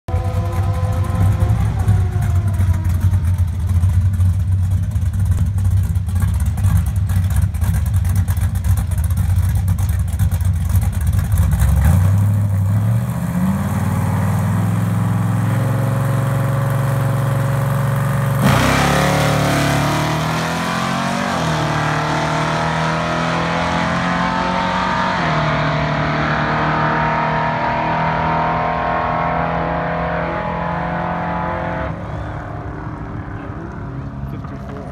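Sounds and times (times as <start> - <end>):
drag car engine revving: 0.1 - 34.9.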